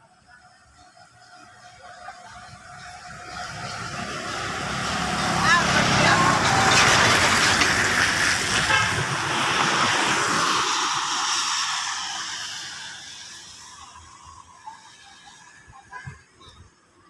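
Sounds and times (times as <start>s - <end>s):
passing vehicle engine and tyres: 0.0s - 17.0s.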